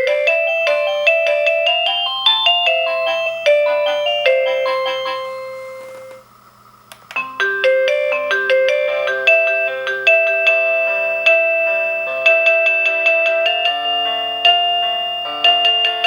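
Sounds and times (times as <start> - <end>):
electronic doorbell chime melody: 0.0 - 6.2, 7.2 - 16.0.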